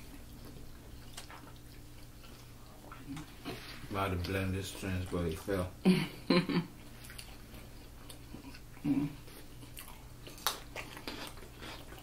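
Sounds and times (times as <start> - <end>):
person chewing close up: 0.0 - 5.5, 6.8 - 12.0.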